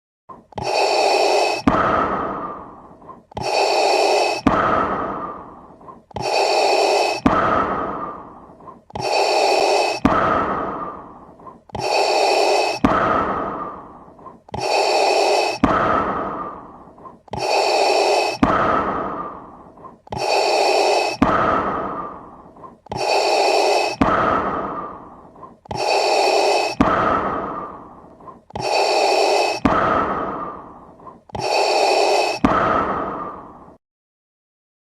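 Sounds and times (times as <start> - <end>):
mechanical respirator breathing: 0.3 - 33.8
respirator sharp click: 0.5 - 8.2, 8.9 - 11.0, 11.7 - 33.4.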